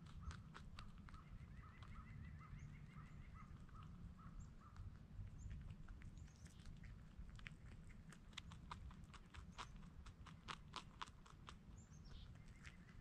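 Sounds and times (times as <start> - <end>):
rabbit crunching food: 0.0 - 13.0.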